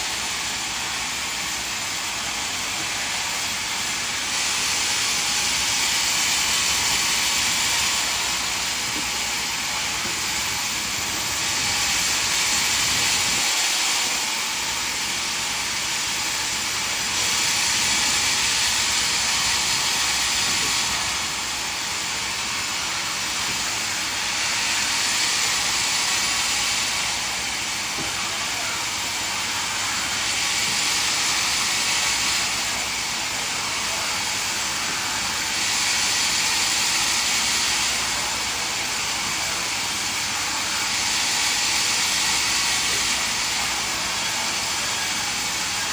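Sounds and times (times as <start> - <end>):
band sawmill hissing: 0.0 - 45.9.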